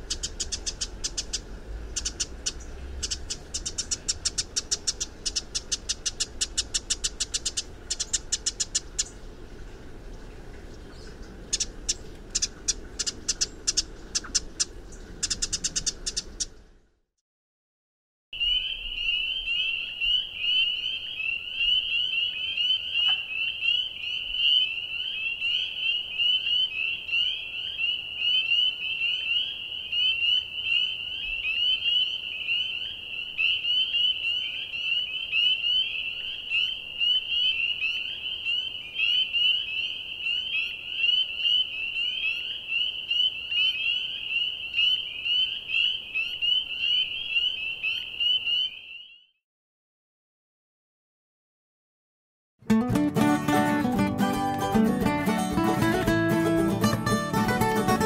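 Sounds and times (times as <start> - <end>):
chorus of frogs peeping: 0.0 - 16.6, 18.4 - 49.3.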